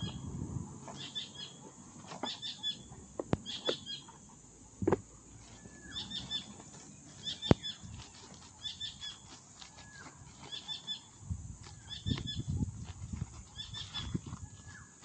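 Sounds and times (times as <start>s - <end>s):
bird chirping: 0.9s - 4.4s, 5.4s - 12.6s, 13.4s - 15.0s.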